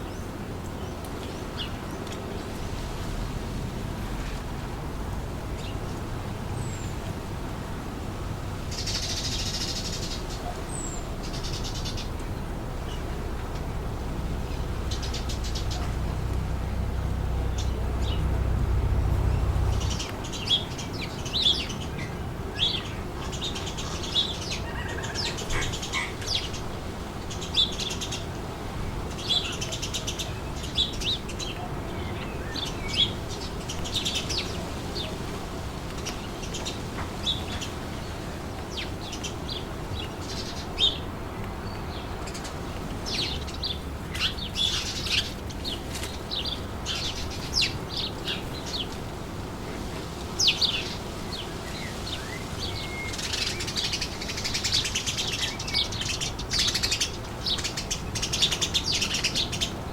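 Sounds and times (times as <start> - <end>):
small birds chirping: 0.0 - 59.9
wind: 0.0 - 59.9
wind rumble on microphone: 0.0 - 59.9.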